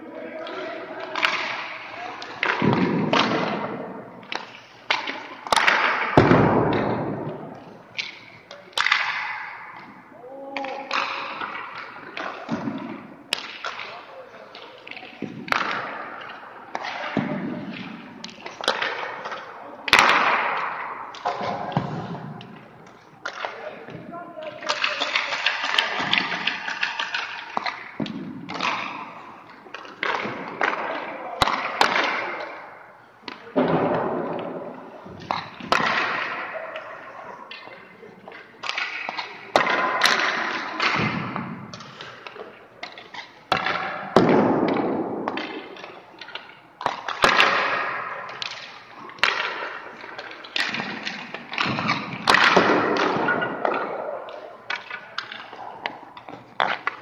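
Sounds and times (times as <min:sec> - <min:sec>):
pucks knocking off sticks and pads: 0:00.4 - 0:57.0.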